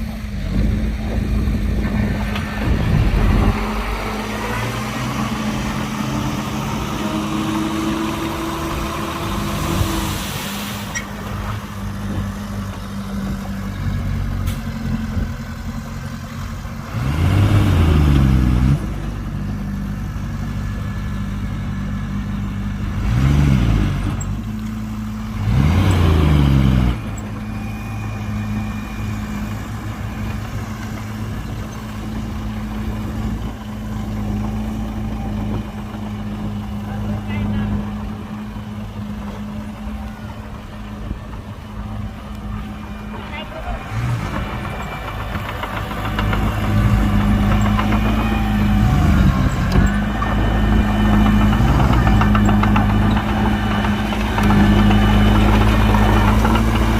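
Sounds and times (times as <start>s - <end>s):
heavy diesel engine revving: 0.0s - 56.9s.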